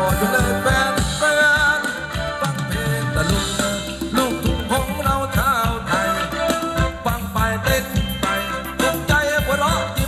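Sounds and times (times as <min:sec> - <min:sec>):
live band dance music: 0:00.0 - 0:10.0
person singing: 0:00.0 - 0:10.0.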